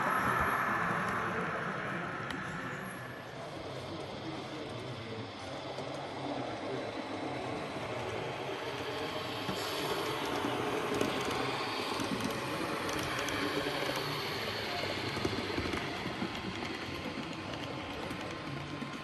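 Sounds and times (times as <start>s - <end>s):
hall background noise: 0.0s - 19.0s
model train running: 0.0s - 19.0s.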